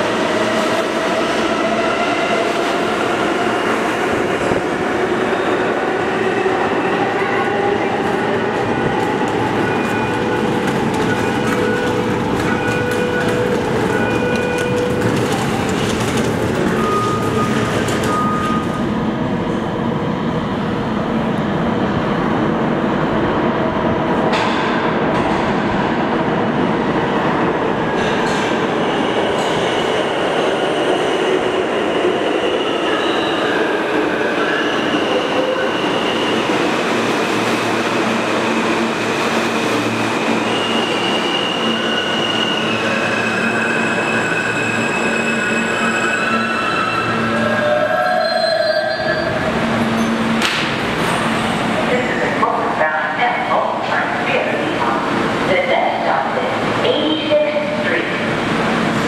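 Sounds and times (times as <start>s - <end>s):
subway train rumbling on rails: 0.0s - 59.0s.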